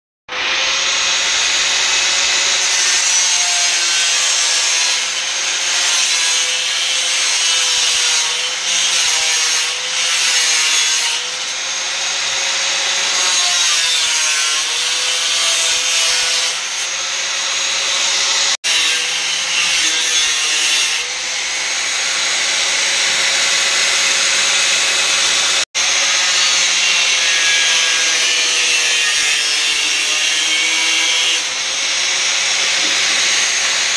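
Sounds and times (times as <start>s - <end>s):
angle grinder grinding metal: 0.3s - 33.9s.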